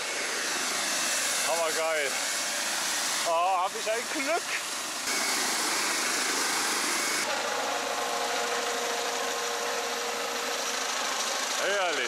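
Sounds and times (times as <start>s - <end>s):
droning hum: 0.0s - 11.7s
aircraft engine rushing overhead: 0.0s - 12.0s.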